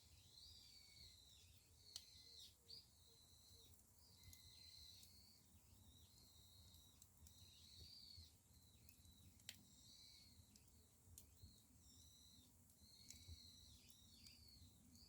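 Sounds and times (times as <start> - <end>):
firewood burning low rumble: 0.1 - 15.0.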